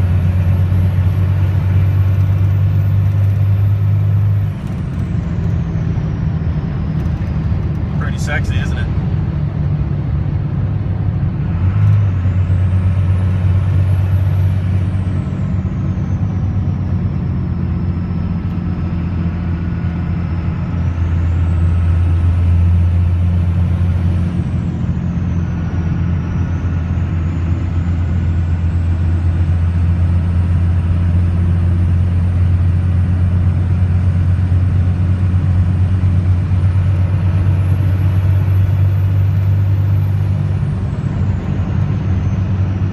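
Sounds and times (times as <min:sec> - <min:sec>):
diesel engine drone: 0:00.0 - 0:42.9.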